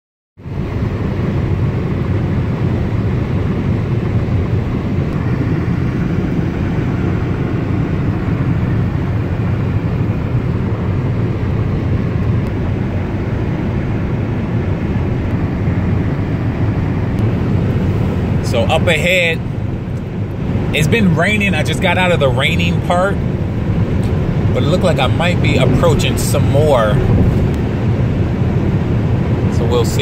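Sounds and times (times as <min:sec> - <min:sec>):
car interior road drone: 0:00.4 - 0:30.0.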